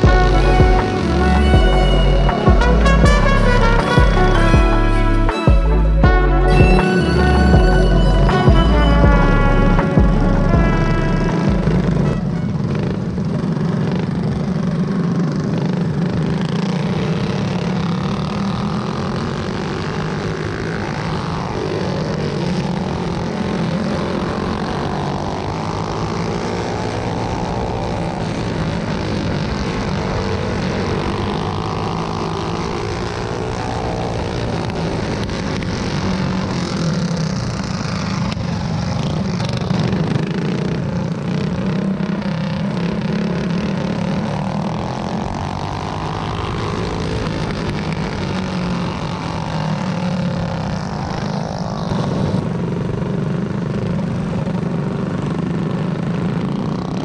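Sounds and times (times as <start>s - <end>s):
go-kart engines racing: 0.0s - 57.0s.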